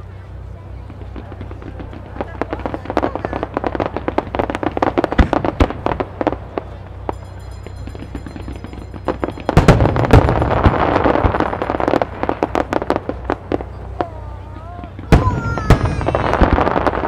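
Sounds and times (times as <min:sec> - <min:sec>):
firework crackling pops: 0:00.8 - 0:07.2, 0:08.0 - 0:17.0
heavy firework boom: 0:00.8 - 0:07.2, 0:07.9 - 0:14.2, 0:14.8 - 0:17.0.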